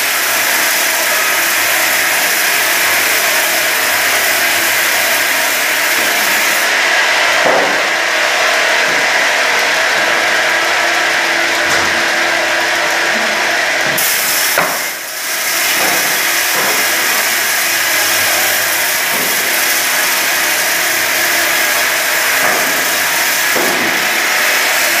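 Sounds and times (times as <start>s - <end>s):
motor hum: 0.0s - 25.0s
saw cutting wood: 0.0s - 25.0s.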